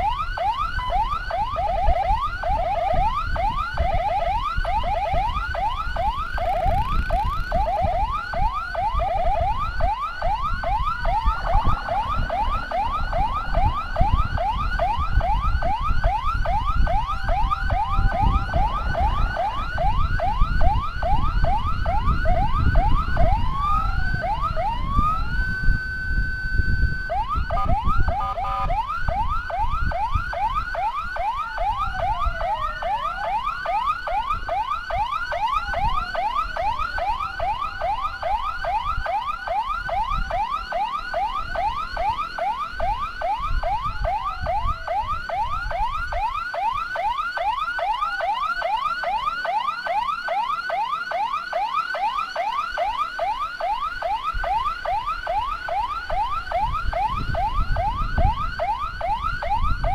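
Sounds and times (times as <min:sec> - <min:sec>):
vehicle and wind rumble: 0:00.0 - 0:47.8, 0:54.0 - 0:59.9
siren yelping and wailing: 0:00.0 - 0:59.9.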